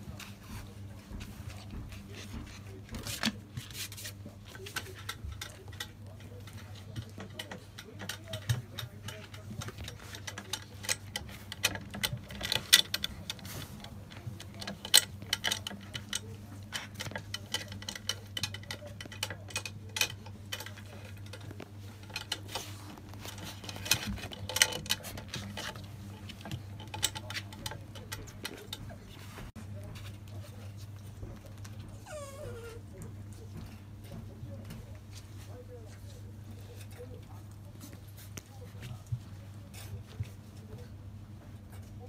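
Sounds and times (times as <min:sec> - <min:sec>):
puppy claws clicking on floor: 0:00.2 - 0:42.0.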